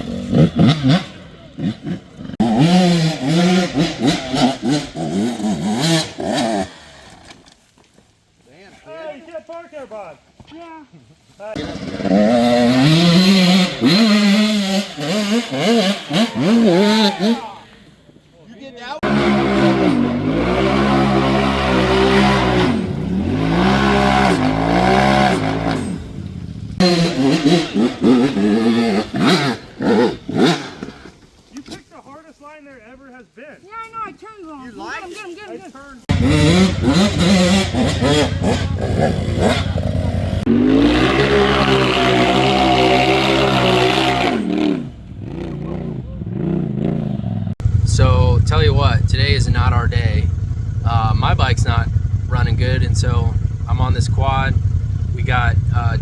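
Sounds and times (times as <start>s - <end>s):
off-road engine revving: 0.0s - 7.2s, 11.5s - 17.8s, 18.8s - 31.2s, 36.1s - 56.0s.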